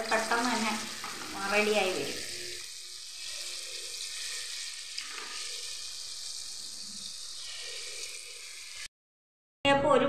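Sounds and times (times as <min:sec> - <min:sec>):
batter sizzling in hot oil: 0:00.0 - 0:08.9.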